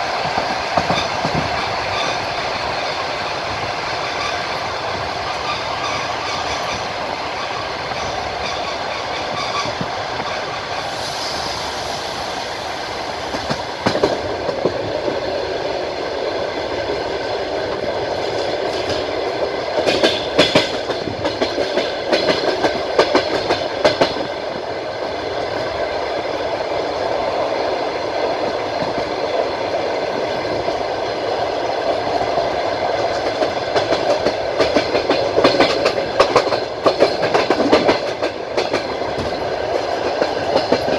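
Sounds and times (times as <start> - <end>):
wheels clicking over rail joints: 0.0 - 11.7, 12.6 - 25.8, 28.2 - 40.9
train carriage rumbling on track: 0.0 - 40.9.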